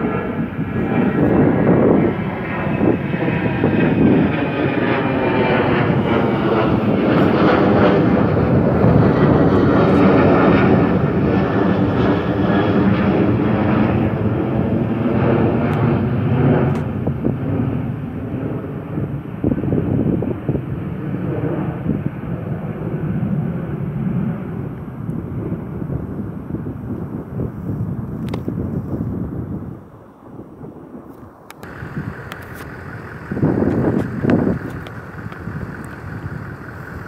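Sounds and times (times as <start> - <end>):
jet engines at takeoff: 0.0 - 37.0.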